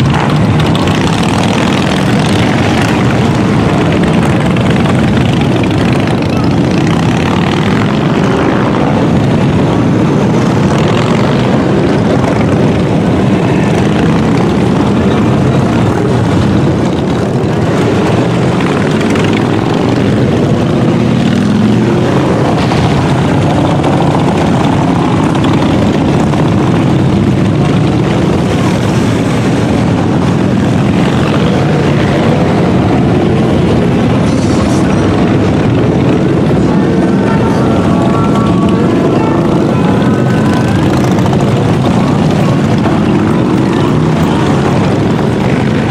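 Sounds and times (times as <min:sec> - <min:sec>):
motorcycles riding by: 0:00.0 - 0:45.9.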